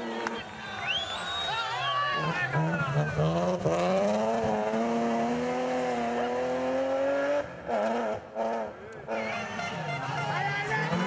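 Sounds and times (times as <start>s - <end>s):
rally car engine revving: 2.0s - 11.0s.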